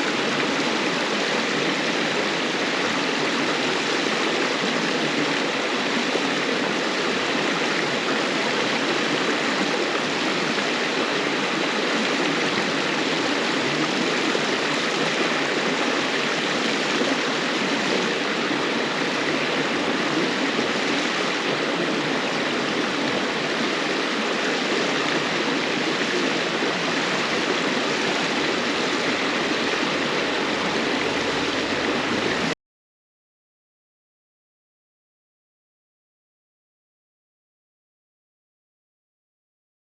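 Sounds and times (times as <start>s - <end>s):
river water flowing over stones: 0.0s - 32.5s.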